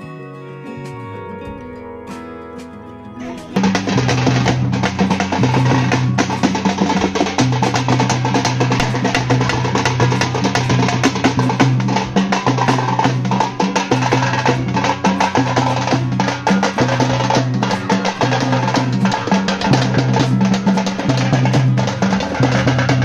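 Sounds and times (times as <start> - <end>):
group of drums beaten with sticks: 3.2 - 23.0.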